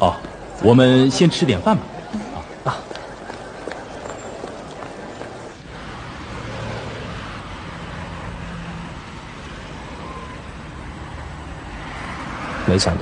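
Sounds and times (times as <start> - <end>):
passing vehicles: 0.0 - 13.0
tyre road noise: 0.0 - 13.0.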